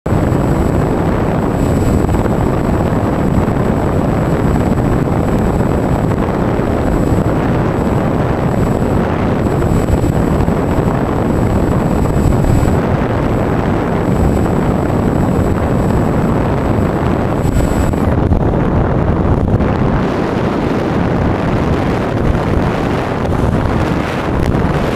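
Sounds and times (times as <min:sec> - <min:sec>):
wind rushing on microphone: 0:00.1 - 0:24.9.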